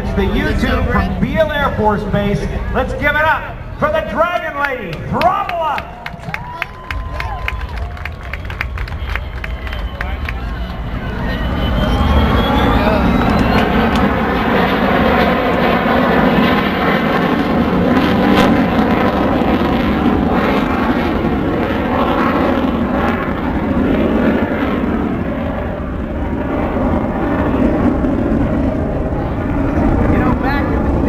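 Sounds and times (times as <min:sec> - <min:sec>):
faint engine whine: 0:00.0 - 0:31.0
jet engine roaring: 0:00.0 - 0:31.0.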